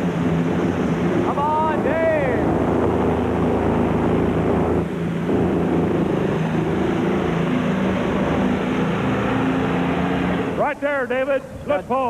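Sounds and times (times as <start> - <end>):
tractor engine running under full load: 0.0 - 12.0.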